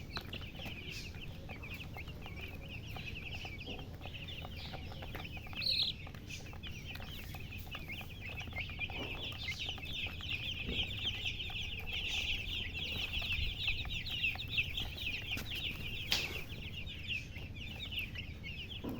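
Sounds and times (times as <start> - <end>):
baby chicks peeping: 0.0 - 18.9.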